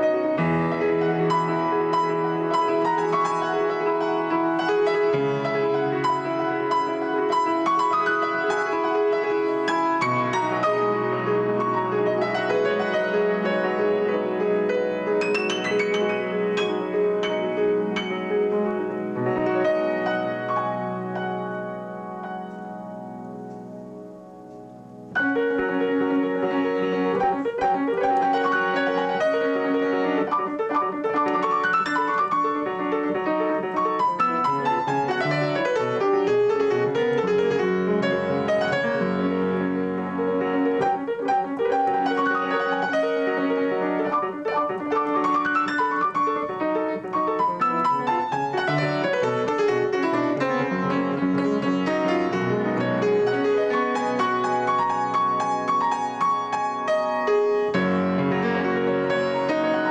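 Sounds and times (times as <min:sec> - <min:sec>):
piano played fast: 0:00.0 - 0:59.9.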